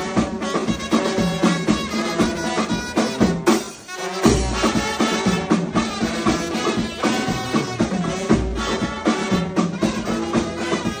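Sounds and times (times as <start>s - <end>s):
music with drums and beat: 0.0s - 11.0s.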